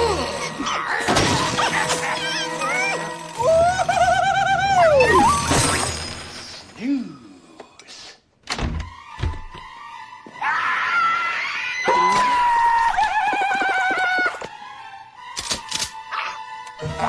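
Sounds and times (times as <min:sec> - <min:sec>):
music: 0:00.0 - 0:05.5, 0:08.4 - 0:17.0.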